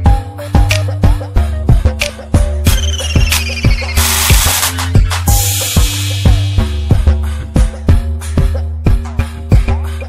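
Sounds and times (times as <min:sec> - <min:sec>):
heavy bass line: 0:00.0 - 0:10.0
steady drum beat: 0:00.6 - 0:09.7.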